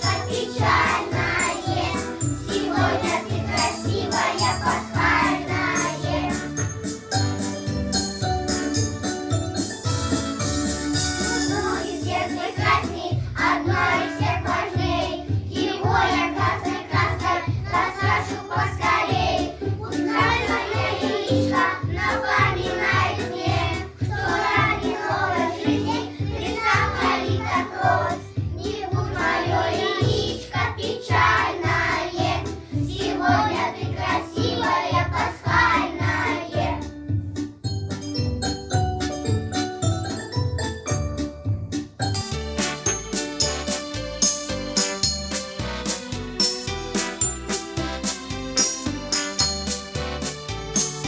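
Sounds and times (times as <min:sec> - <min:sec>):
children's song singing: 0:00.0 - 0:43.0
backing track with steady beat: 0:00.0 - 0:51.0.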